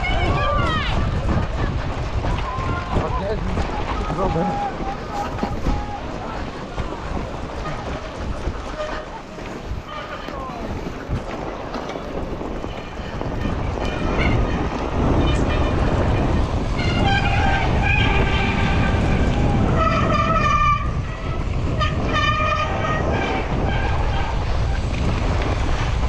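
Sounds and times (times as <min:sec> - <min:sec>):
bike tyres rumbling on snow: 0:00.0 - 0:26.0
wind rushing over camera: 0:00.0 - 0:26.0.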